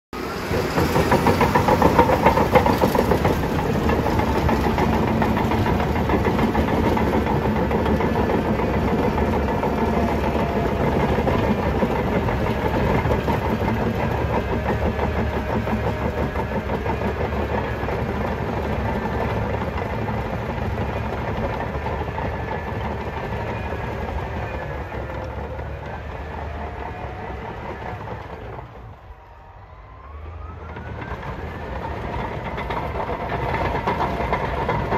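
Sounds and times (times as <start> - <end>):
bulldozer engine and tracks: 0.1 - 34.9.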